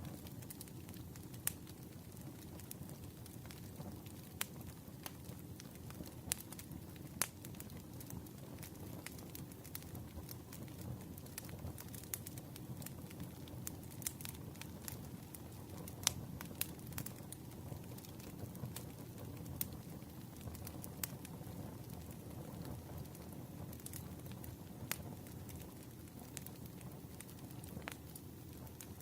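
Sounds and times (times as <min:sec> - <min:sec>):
low rumble of flame: 0:00.0 - 0:29.0
wood crackling and popping: 0:00.0 - 0:29.0.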